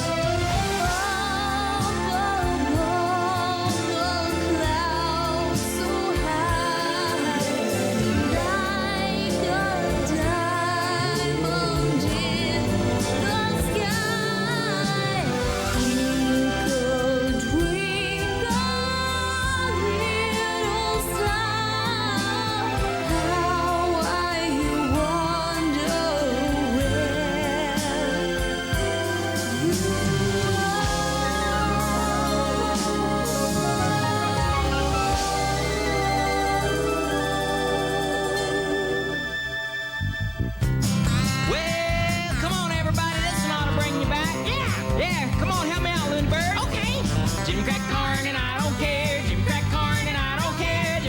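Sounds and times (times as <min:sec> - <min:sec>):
pop song with singing: 0:00.0 - 0:51.0.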